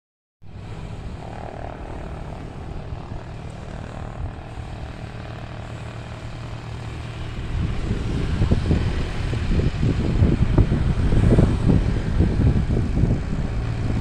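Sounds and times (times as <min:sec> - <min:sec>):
aircraft propeller engines droning: 0:00.4 - 0:14.0.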